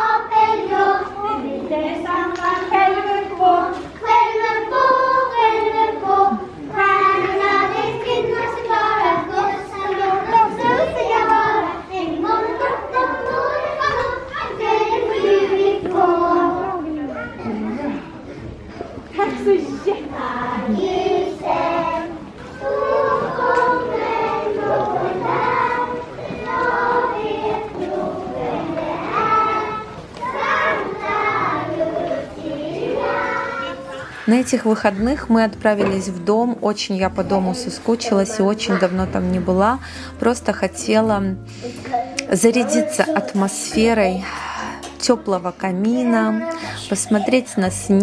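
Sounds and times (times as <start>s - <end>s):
children's choir singing: 0.0s - 39.6s, 41.9s - 48.0s.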